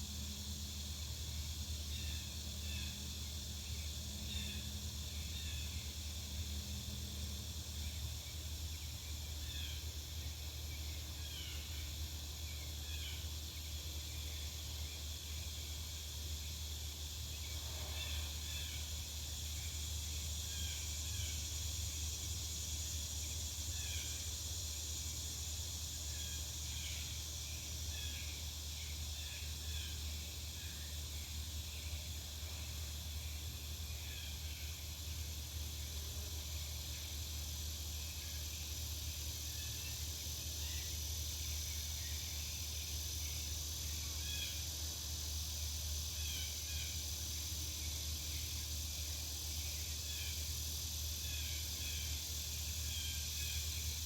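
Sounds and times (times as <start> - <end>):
faint high hiss: 0.0 - 54.0.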